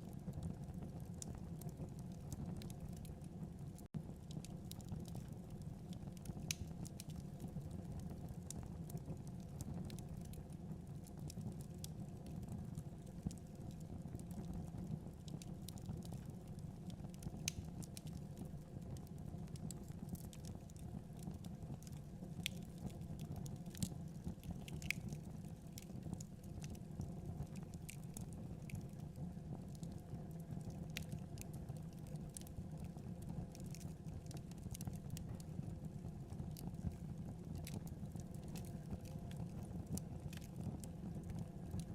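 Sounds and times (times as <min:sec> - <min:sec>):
wood fire crackling and popping: 0:00.0 - 0:41.9
fire rumbling: 0:00.1 - 0:41.9.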